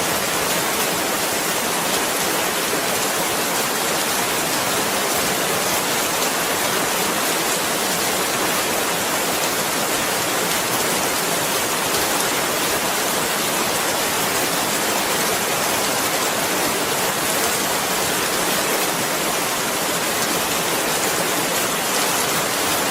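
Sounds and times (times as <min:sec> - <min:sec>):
steady rain: 0:00.0 - 0:22.9.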